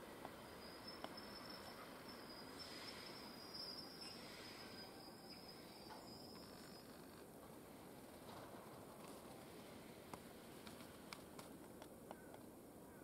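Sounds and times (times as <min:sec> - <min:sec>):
background hiss: 0:00.0 - 0:12.9.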